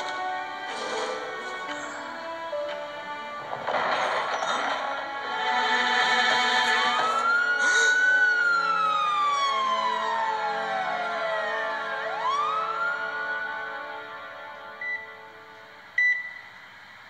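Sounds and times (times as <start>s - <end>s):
emergency vehicle siren wailing: 0.0s - 15.4s.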